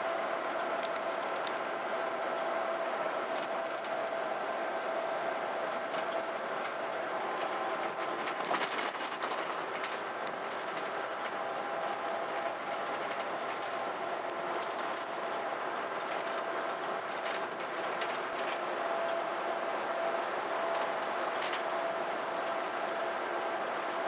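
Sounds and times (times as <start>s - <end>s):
bus cabin rumble and hiss: 0.0s - 24.0s.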